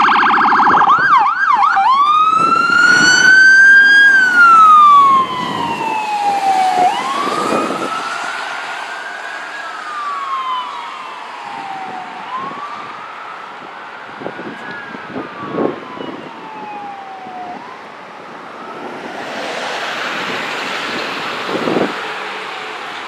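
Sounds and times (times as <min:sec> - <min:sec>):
ambulance siren wailing: 0:00.0 - 0:23.0.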